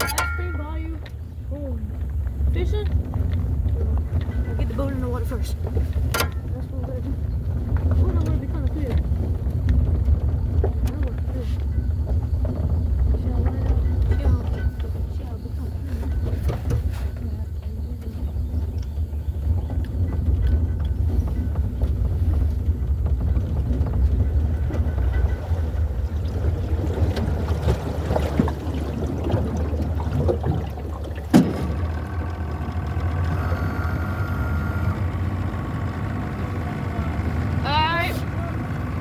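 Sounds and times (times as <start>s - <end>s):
engine droning hum: 0.0s - 39.0s.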